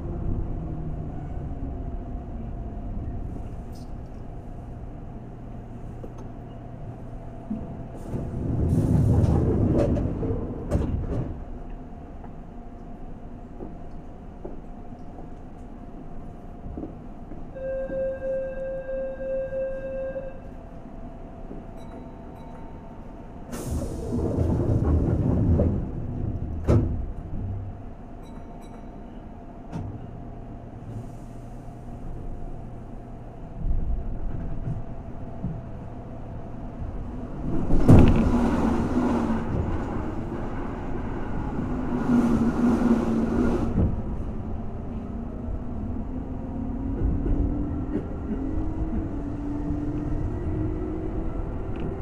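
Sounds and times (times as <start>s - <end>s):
train motors and wheels running: 0.0s - 18.8s, 20.4s - 52.0s.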